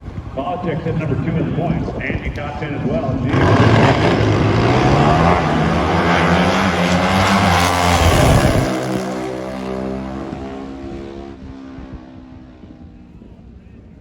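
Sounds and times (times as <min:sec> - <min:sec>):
motorcycles at full throttle: 0:00.0 - 0:14.0.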